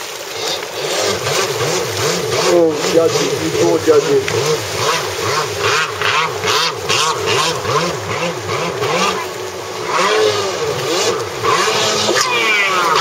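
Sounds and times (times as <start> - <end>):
jet ski engine revving: 0.0 - 13.0
rushing water and spray: 0.0 - 13.0.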